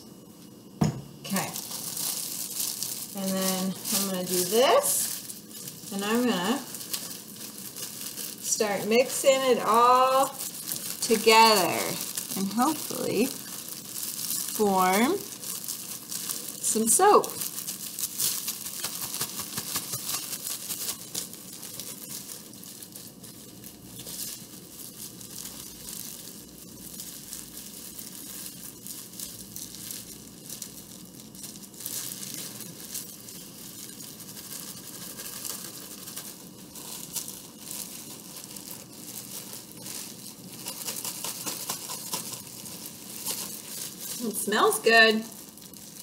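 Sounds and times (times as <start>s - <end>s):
plastic bag crinkling: 0.2s - 46.0s.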